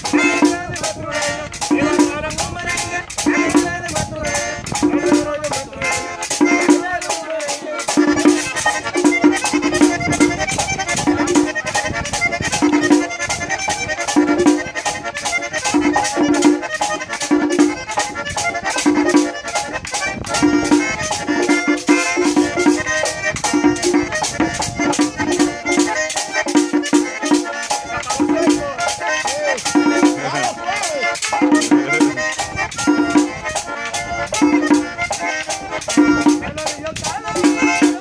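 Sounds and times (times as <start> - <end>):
button accordion melody: 0.0 - 38.0
drum beats: 0.0 - 38.0.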